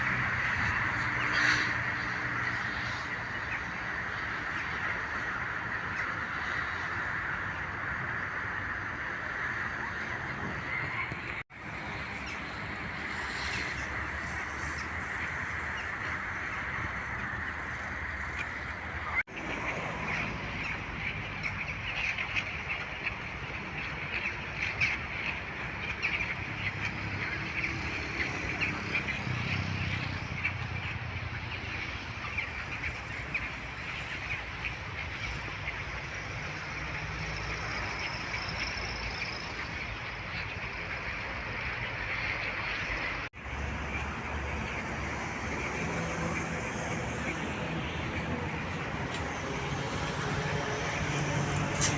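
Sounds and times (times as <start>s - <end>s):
flock of waterfowl calling: 0.0s - 51.9s.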